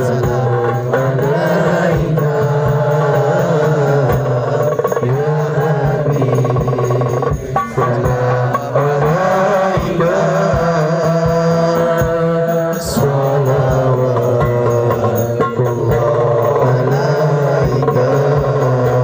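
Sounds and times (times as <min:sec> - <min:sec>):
hand-drum beats: 0:00.0 - 0:19.0
man singing through loudspeakers: 0:00.0 - 0:19.0.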